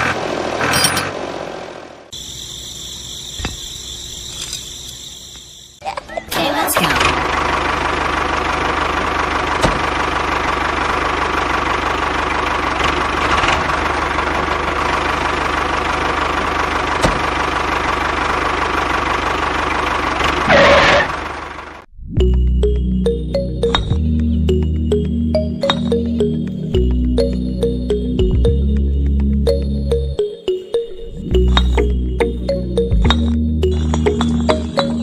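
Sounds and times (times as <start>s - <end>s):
engine running steadily: 6.0s - 35.0s.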